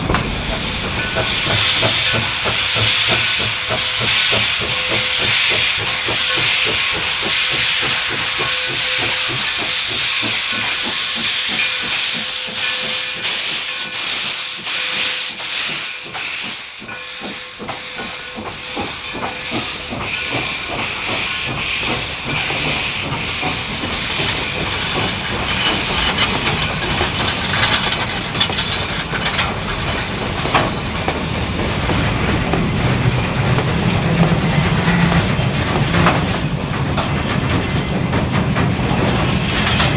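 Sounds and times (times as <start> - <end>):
steam hissing: 0.0 - 36.4
locomotive chuffing beats: 0.0 - 39.9
train rumble: 0.0 - 39.9.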